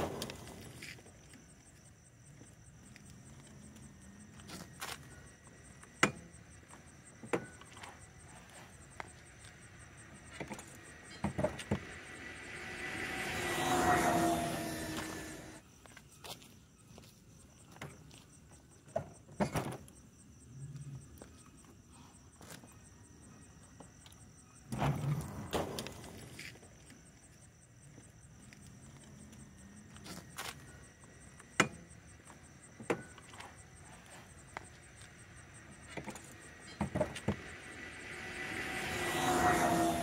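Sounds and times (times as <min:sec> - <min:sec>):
night insects chirping: 0:00.0 - 0:40.0.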